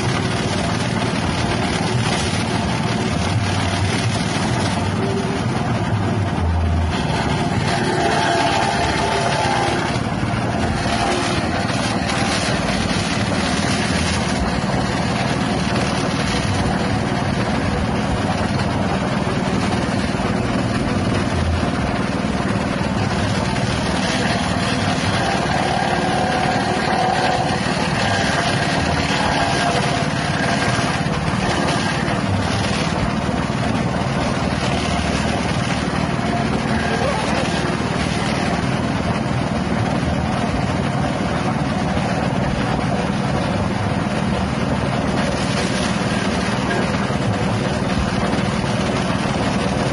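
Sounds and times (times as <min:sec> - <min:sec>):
blades chopping grass: 0:00.0 - 0:05.6, 0:06.8 - 0:49.9
petrol engine running: 0:00.0 - 0:49.9.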